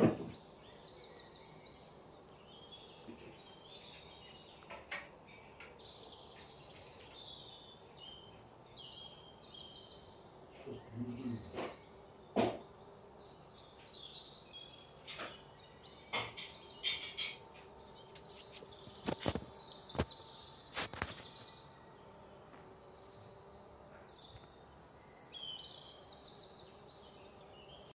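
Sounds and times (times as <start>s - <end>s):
outdoor background hiss: 0.0s - 28.0s
small birds chirping: 0.0s - 28.0s.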